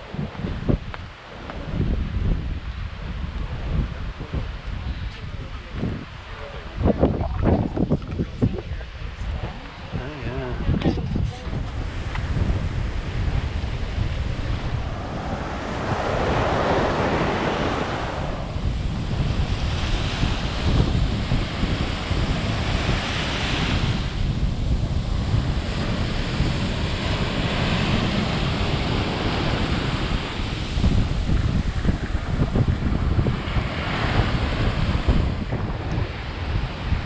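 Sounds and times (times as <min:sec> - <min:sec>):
ocean waves breaking on beach: 0:00.0 - 0:37.0
wind buffeting microphone: 0:00.0 - 0:37.0.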